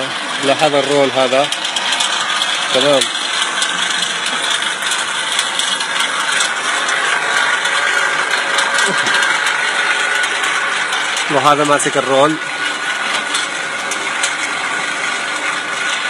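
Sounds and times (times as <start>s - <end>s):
belt machinery rapid clatter: 0.0s - 16.0s.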